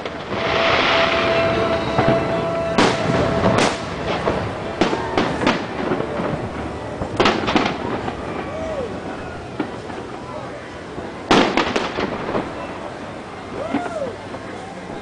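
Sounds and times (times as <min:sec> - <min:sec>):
fireworks bursting with sharp bangs: 0:00.0 - 0:15.0
low rumble of distant explosions: 0:00.0 - 0:15.0.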